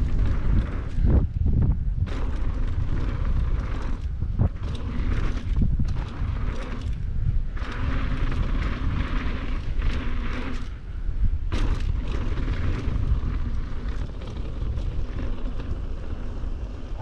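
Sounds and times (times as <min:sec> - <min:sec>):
bike chain and frame rattling: 0:00.0 - 0:17.0
tyres crunching on loose dirt: 0:00.0 - 0:17.0
wind buffeting microphone: 0:00.0 - 0:17.0.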